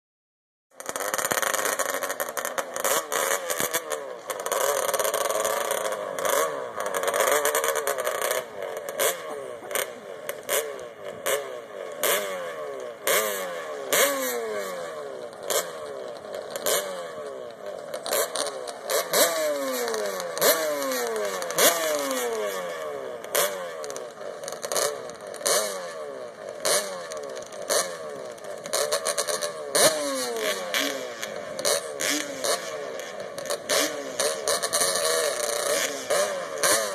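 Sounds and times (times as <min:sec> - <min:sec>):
atv engines revving: 0:00.8 - 0:36.9.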